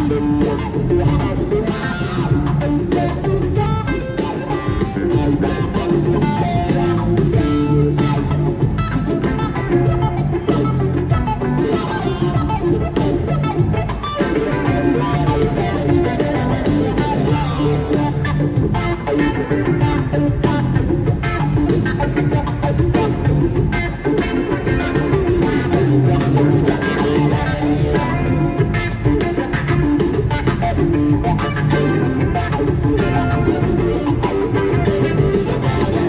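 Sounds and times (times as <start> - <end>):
electric guitar: 0.0 - 36.0
live rock band playing: 0.0 - 36.0.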